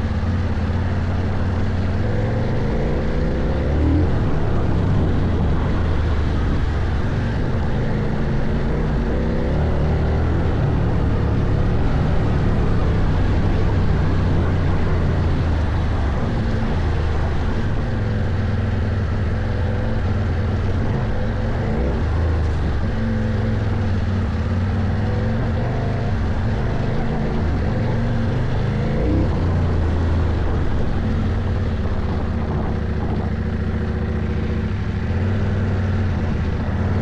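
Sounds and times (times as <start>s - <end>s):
engine running under load: 0.0s - 37.0s.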